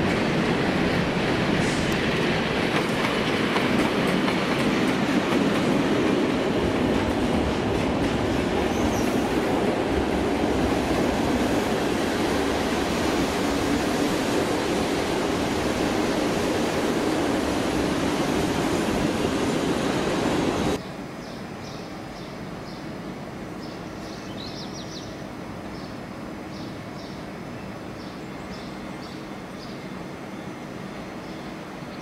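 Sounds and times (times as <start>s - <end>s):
train coaches rumbling past: 0.0s - 32.0s.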